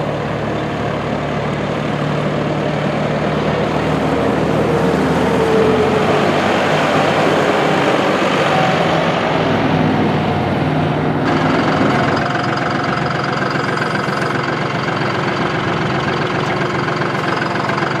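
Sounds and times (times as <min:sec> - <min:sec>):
tractor diesel engine: 0:00.0 - 0:18.0.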